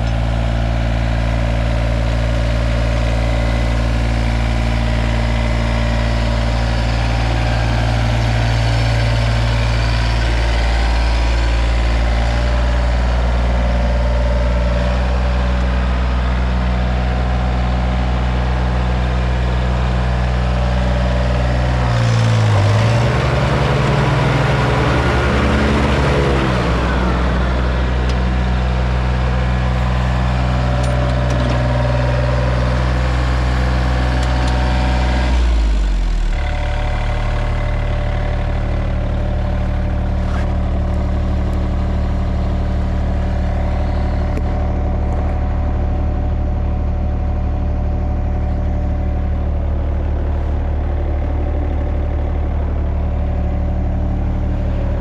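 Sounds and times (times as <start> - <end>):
mower diesel engine running: 0.0 - 55.0.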